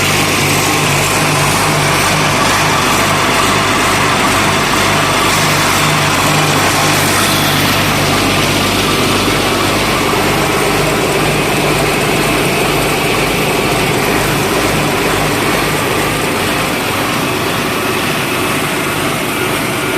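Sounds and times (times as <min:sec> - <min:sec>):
engine hum: 0:00.0 - 0:19.9
high-pressure water hiss: 0:00.0 - 0:19.9.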